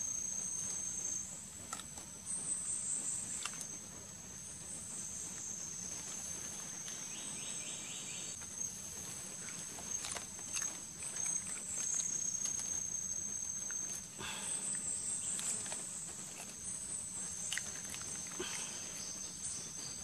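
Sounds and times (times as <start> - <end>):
insects shrilling: 0.0 - 20.0.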